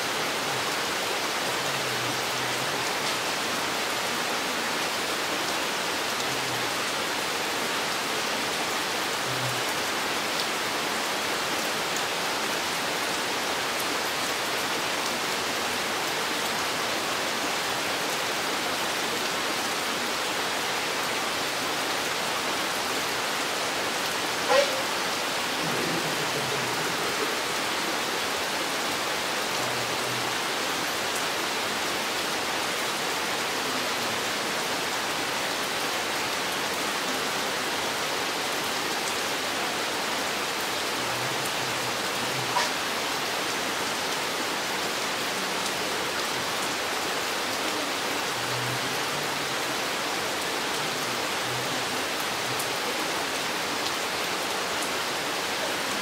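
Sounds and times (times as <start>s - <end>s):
steady rain in forest: 0.0s - 56.0s.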